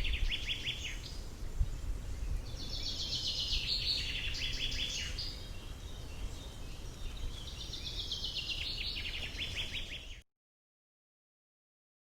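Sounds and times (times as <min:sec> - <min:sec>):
low wind rumble: 0:00.0 - 0:10.2.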